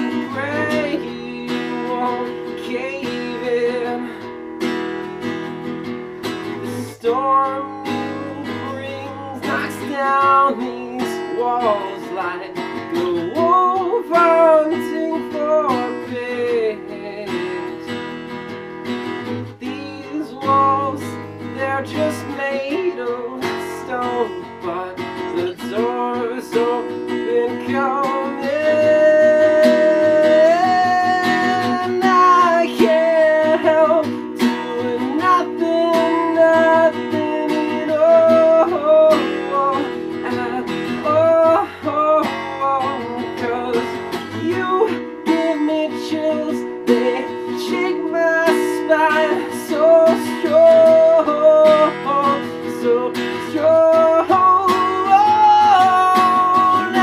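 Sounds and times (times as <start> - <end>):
person singing: 0.0 - 4.6, 6.2 - 18.0, 19.2 - 57.0
acoustic guitar strumming: 0.0 - 57.0.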